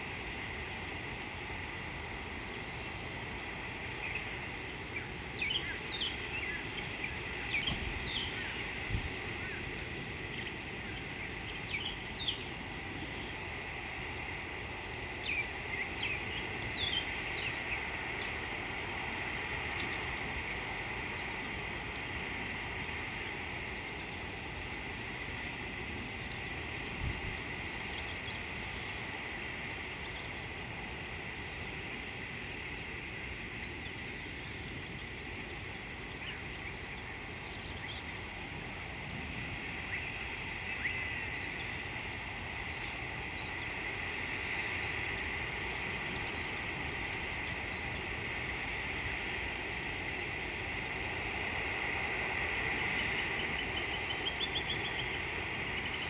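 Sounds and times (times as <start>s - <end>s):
insects chorus ringing: 0.0s - 56.0s.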